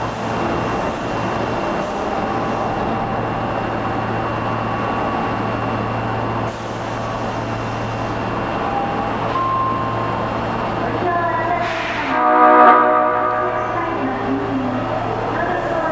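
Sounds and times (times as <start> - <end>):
train equipment humming: 0.0 - 15.9.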